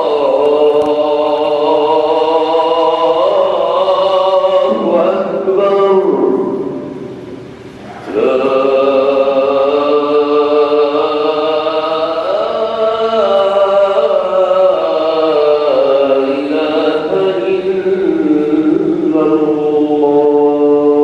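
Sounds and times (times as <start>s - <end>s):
man chanting: 0.0s - 6.9s, 7.8s - 21.0s.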